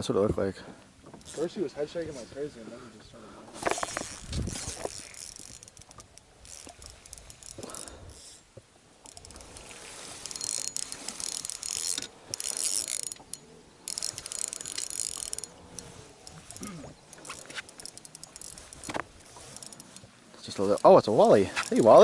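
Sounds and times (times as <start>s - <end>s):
fishing reel clicking: 1.2s - 1.5s, 3.6s - 22.0s.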